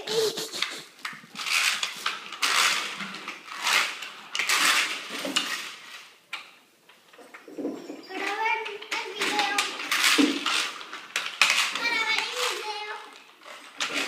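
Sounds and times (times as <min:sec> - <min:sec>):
plastic sheet rustling and crinkling: 0:00.0 - 0:06.2, 0:08.1 - 0:14.0.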